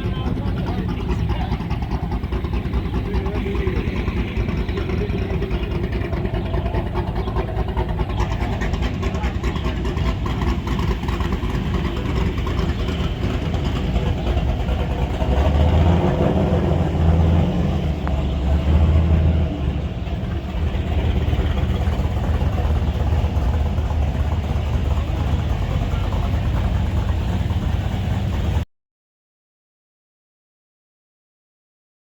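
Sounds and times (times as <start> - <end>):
vehicle engine idling: 0.0 - 28.6.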